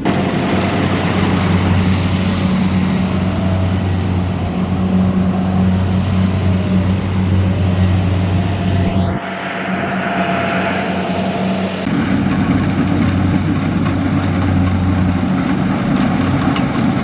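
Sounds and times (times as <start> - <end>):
combine harvester engine drone: 0.0 - 17.0
machinery rushing noise: 0.0 - 17.0.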